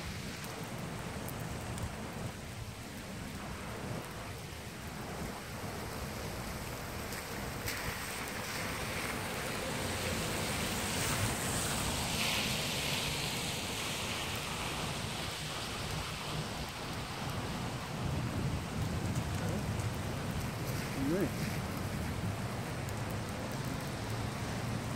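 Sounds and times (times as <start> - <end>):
rain hissing and pattering: 0.0 - 24.9.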